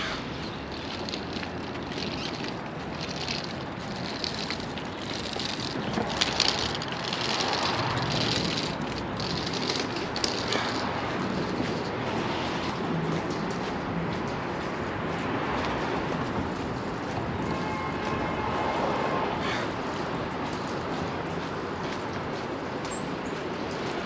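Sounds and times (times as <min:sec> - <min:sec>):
construction engines: 0:00.0 - 0:24.0
street traffic: 0:00.0 - 0:24.0.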